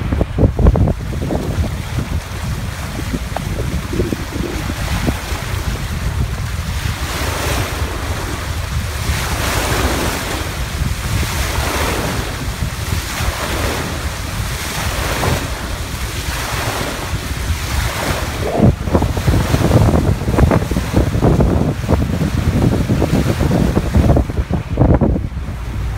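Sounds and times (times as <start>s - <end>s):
water rushing along a hull: 0.0s - 25.9s
wind buffeting microphone: 0.0s - 25.9s.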